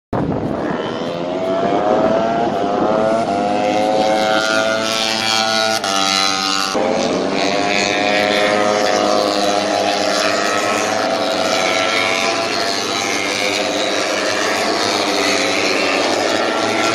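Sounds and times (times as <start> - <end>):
racing motorcycle engines revving: 0.2 - 16.9.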